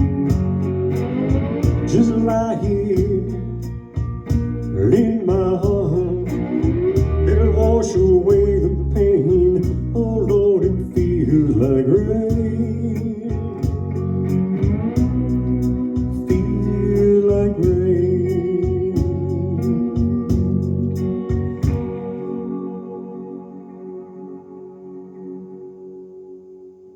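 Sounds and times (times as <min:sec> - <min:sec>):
sustained bass: 0:00.0 - 0:25.4
blues guitar lead: 0:00.0 - 0:26.9.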